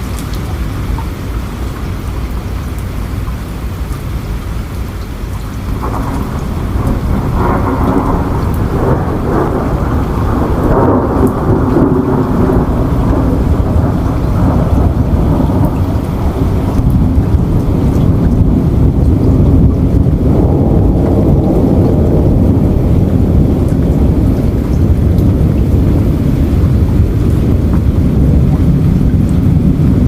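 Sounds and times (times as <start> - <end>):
steady rain: 0.0 - 30.0
deep rumble of thunder: 4.5 - 30.0.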